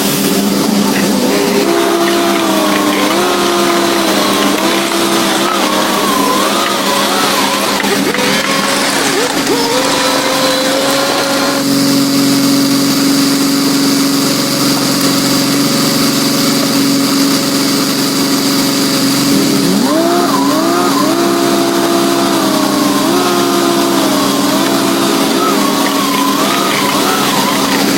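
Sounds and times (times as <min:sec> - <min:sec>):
construction machine engine revving: 0:00.0 - 0:27.9.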